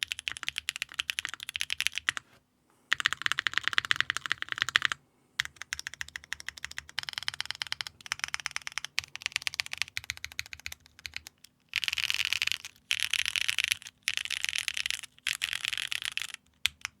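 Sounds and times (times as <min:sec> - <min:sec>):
typing on mechanical keyboard: 0:00.0 - 0:02.2, 0:02.9 - 0:17.0.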